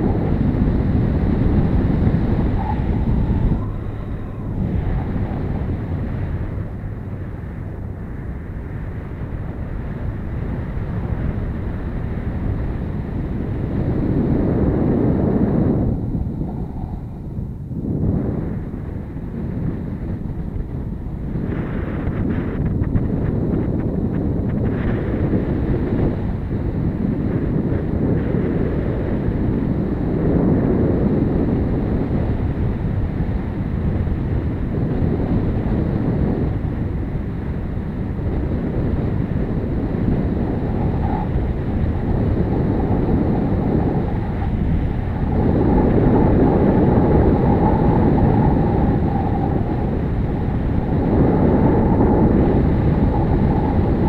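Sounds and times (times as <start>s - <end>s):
faint steady whine: 0.0s - 54.0s
wind rushing over microphone: 0.0s - 54.0s.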